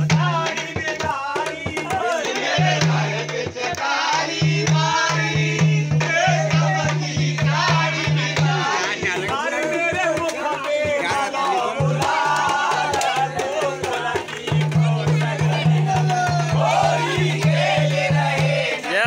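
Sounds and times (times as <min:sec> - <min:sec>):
drum and rattling percussion: 0:00.0 - 0:19.0
voices singing folk song: 0:00.0 - 0:19.0.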